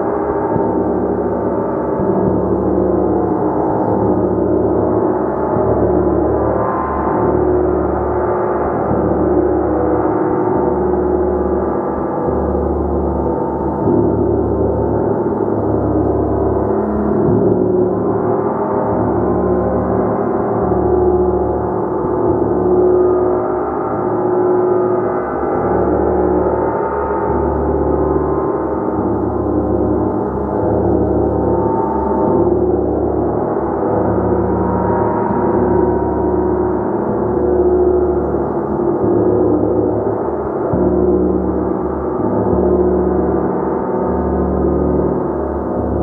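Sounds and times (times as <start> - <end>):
gong played continuously: 0.0 - 46.0.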